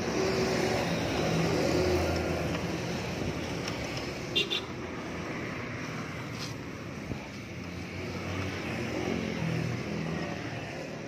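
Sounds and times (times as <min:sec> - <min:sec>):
steady traffic noise: 0:00.0 - 0:11.0.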